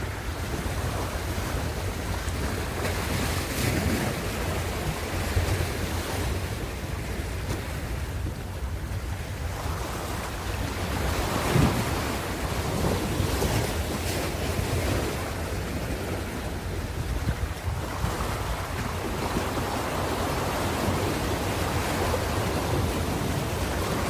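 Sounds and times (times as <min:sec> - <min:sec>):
ocean waves breaking: 0:00.0 - 0:24.0
wind rumble on microphone: 0:00.0 - 0:24.0.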